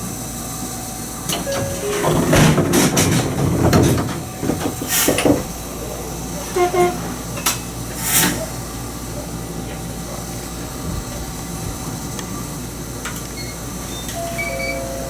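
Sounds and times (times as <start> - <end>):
train interior hum: 0.0 - 15.0.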